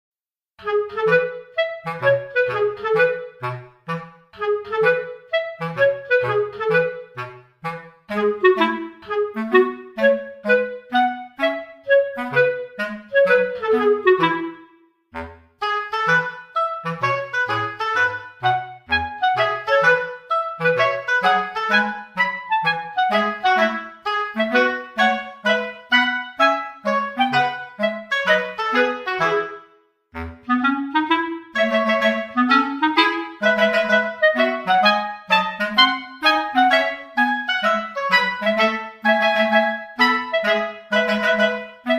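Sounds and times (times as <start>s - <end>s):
light bouncy melody: 0.6s - 41.9s
woodwind playing light tune: 0.6s - 41.9s.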